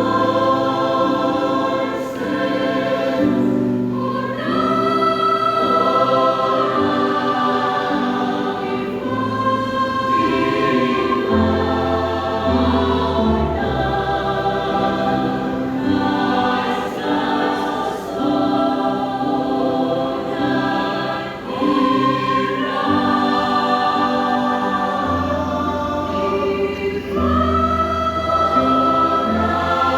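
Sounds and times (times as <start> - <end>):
church choir singing: 0.0 - 29.9.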